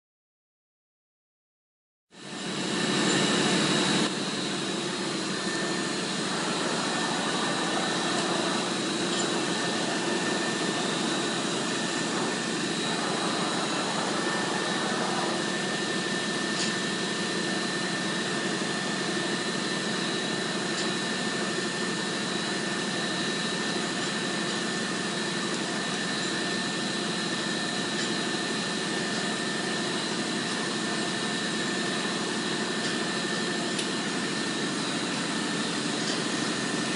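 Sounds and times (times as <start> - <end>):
machine hum with high whine: 2.1 - 36.9.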